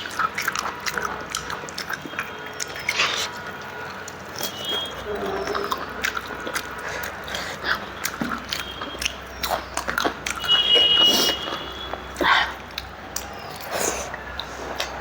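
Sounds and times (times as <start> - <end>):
mouth chewing and smacking: 0.0 - 15.0.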